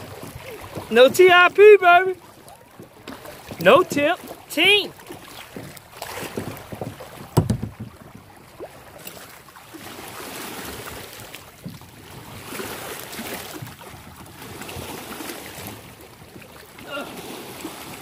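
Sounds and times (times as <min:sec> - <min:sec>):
water lapping around a kayak: 0:00.0 - 0:18.0.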